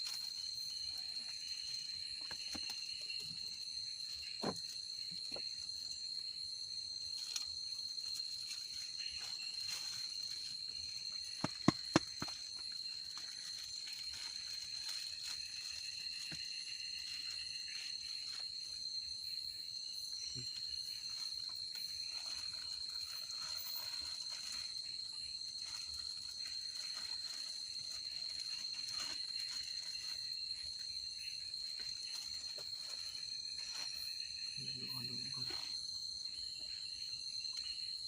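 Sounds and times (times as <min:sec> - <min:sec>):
shrill insect chorus: 0:00.0 - 0:38.0.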